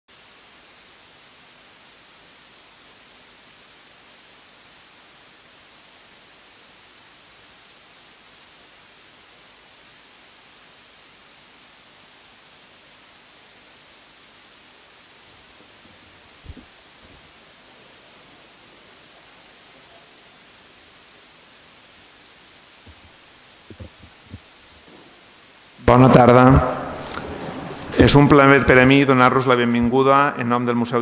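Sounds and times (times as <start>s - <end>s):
faint low hum: 0.1s - 31.0s
steady hiss: 0.1s - 31.0s.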